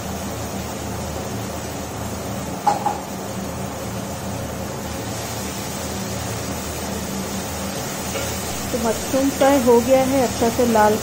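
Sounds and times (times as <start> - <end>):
mechanical hum and hiss: 0.0 - 11.0.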